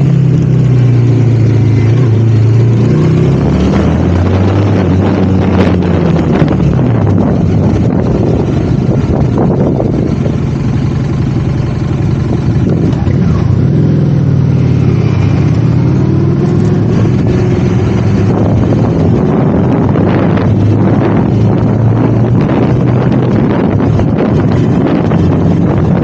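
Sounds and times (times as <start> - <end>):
motorcycle engine accelerating: 0.0 - 26.0
wind on microphone: 0.0 - 26.0.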